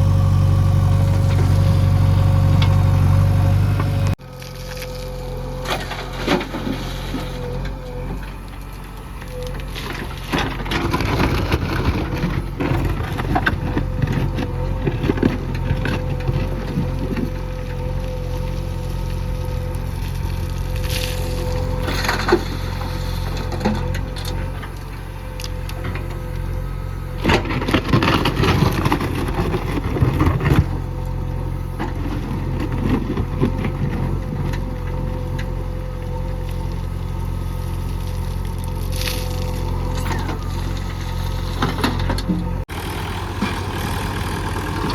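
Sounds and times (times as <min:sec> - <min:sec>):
diesel engine under load: 0:00.0 - 0:44.9
bucket scraping soil and stones: 0:04.1 - 0:35.4, 0:36.4 - 0:44.9.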